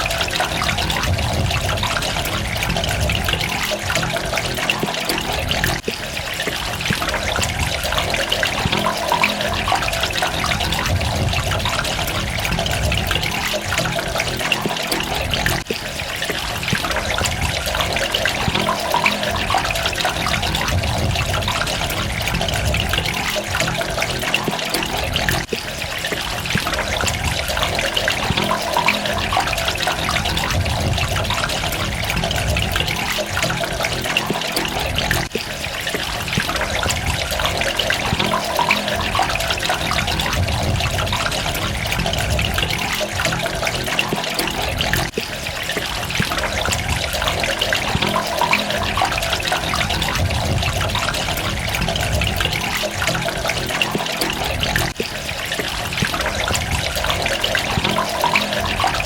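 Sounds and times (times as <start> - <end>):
droplets splashing: 0.0 - 59.0
water running and trickling: 0.0 - 59.0.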